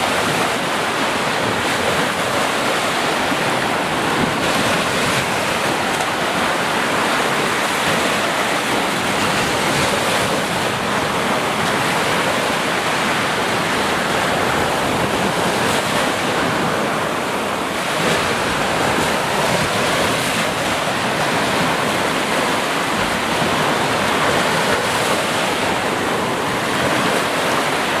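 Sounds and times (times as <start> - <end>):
sea waves rushing: 0.0 - 28.0.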